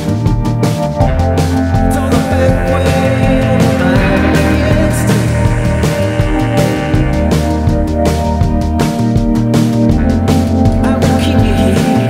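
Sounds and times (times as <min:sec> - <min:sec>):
steady drum beat: 0:00.0 - 0:12.0
sustained pitched instruments: 0:01.0 - 0:11.7.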